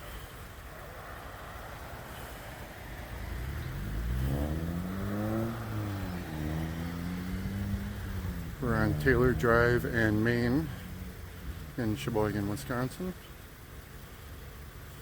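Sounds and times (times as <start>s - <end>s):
low road rumble: 0.0s - 15.0s
car engine accelerating: 0.8s - 15.0s.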